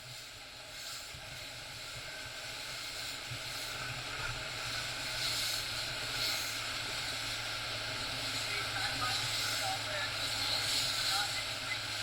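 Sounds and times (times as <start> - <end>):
motorboat engine running: 0.0 - 12.0
wind: 0.0 - 12.0.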